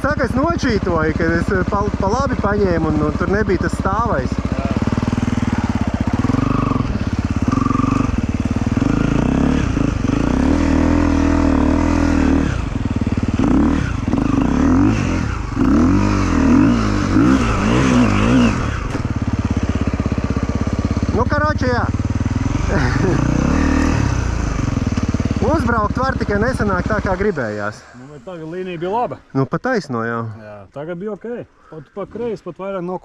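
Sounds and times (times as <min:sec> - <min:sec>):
motorcycle engine idling and revving: 0:00.0 - 0:29.6.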